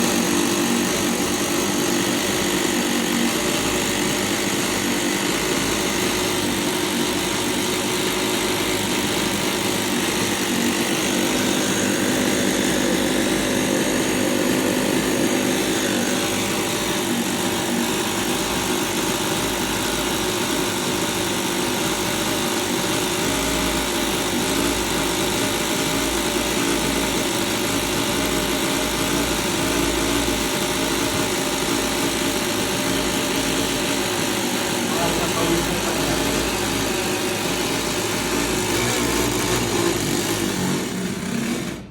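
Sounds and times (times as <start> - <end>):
model engine running: 0.0 - 41.9.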